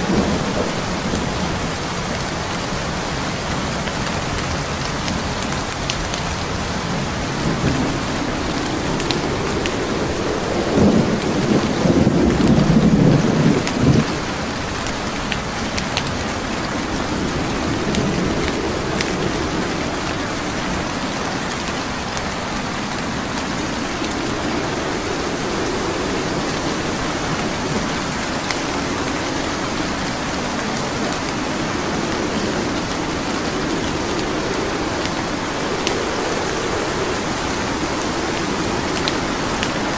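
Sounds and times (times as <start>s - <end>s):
burning logs crackling: 0.0s - 39.9s
steady rain: 0.0s - 39.9s
thunder rumbling: 0.0s - 39.9s.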